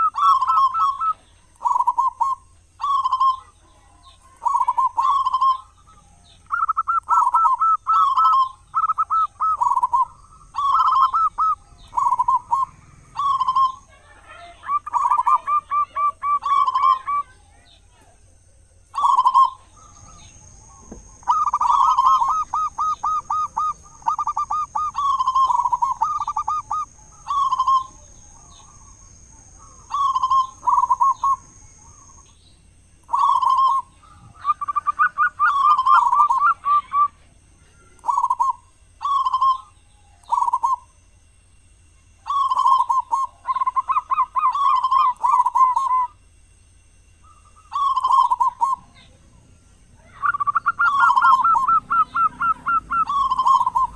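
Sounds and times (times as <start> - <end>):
dove cooing: 0.0 - 32.3, 32.9 - 41.0, 42.0 - 46.2, 47.1 - 53.9.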